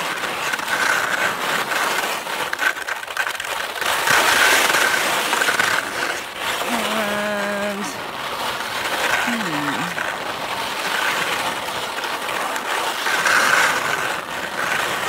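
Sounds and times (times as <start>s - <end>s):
skis scraping over crusty snow: 0.0s - 15.0s.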